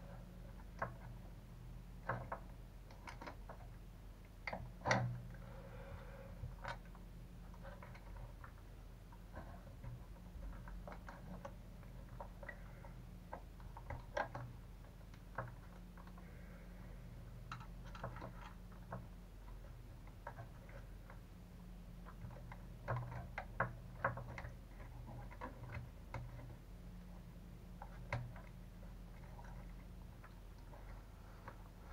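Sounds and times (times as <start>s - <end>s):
low electrical hum: 0.0s - 31.9s
small parts clicking and tapping: 0.1s - 5.4s, 6.4s - 21.3s, 21.9s - 31.9s.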